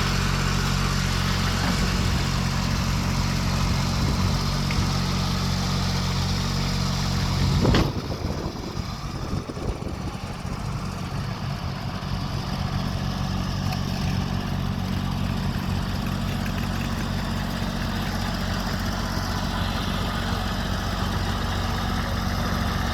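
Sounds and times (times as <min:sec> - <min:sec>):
ride-on mower diesel engine: 0:00.0 - 0:22.9.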